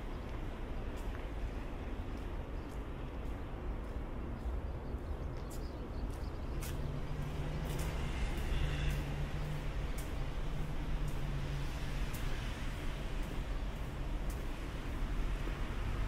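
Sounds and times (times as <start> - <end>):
footsteps on wet concrete: 0.0 - 16.0.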